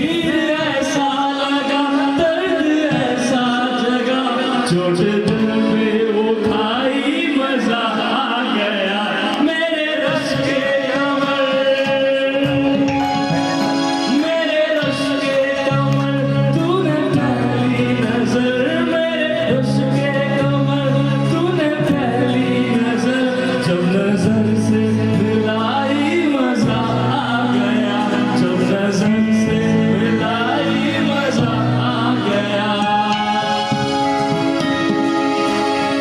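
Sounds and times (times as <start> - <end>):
instrumental backing music: 0.0 - 36.0
man singing: 0.0 - 36.0.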